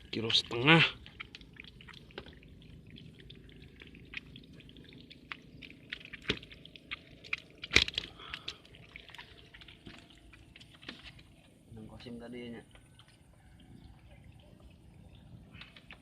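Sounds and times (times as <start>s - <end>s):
water splashing and dripping: 0.0s - 11.6s, 13.0s - 16.0s.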